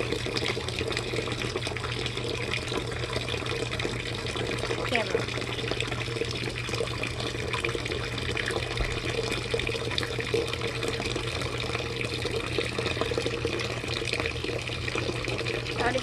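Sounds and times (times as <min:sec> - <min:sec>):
water draining into a bucket: 0:00.0 - 0:16.0.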